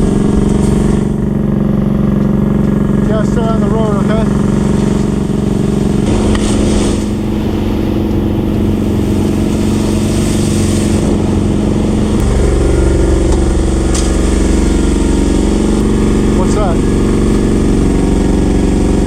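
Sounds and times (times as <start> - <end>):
heavy equipment engine running: 0.0 - 19.0.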